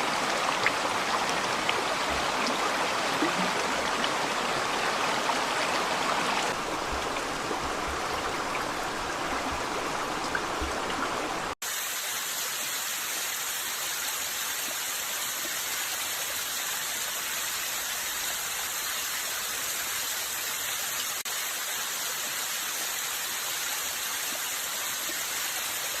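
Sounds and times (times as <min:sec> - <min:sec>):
hissy water noise: 0:00.0 - 0:26.0
running water rushing: 0:00.0 - 0:26.0.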